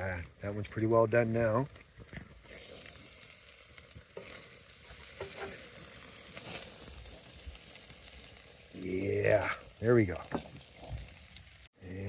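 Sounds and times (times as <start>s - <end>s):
patties sizzling on a grill: 0.0s - 12.0s.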